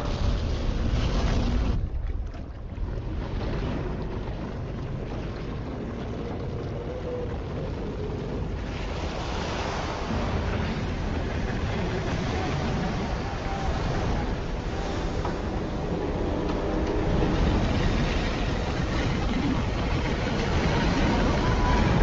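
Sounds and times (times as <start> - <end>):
deep rumble: 0.0 - 22.0
rushing churning water: 0.0 - 22.0.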